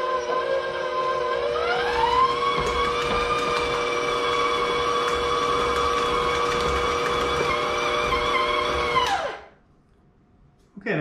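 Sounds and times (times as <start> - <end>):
stand mixer motor whine: 0.0 - 9.6.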